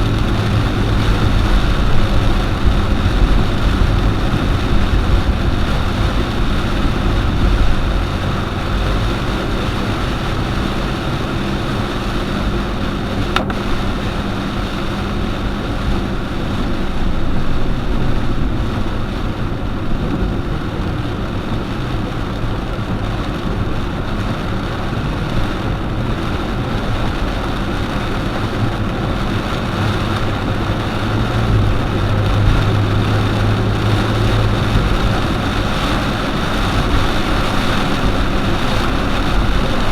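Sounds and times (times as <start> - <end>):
car engine hum: 0.0 - 39.9
tyres hissing on wet road: 0.0 - 39.9.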